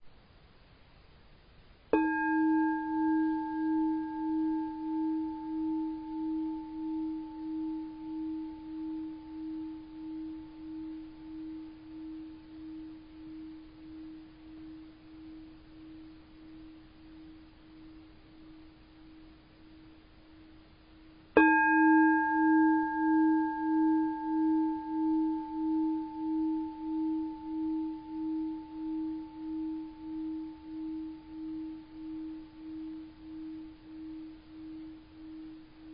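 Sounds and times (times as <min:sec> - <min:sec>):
bowl bell ringing: 0:01.9 - 0:35.9.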